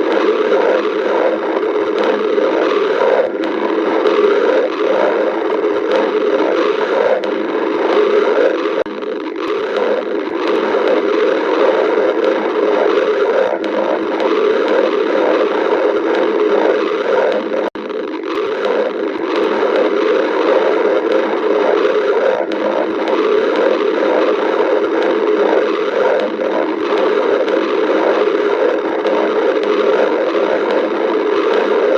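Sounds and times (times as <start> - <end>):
stomach growling: 0.0 - 31.9.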